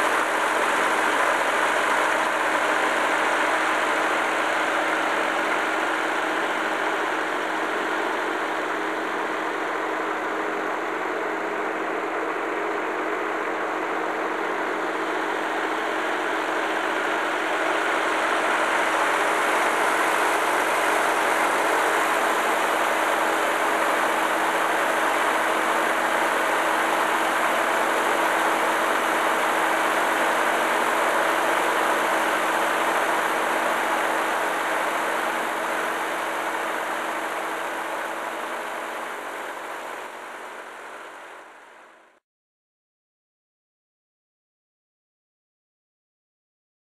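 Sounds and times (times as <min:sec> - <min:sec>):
tractor engine running: 0:00.0 - 0:41.7.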